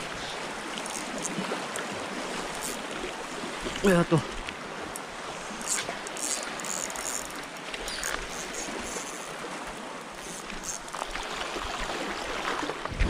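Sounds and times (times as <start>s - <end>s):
seawater lapping on shore: 0.0s - 13.0s.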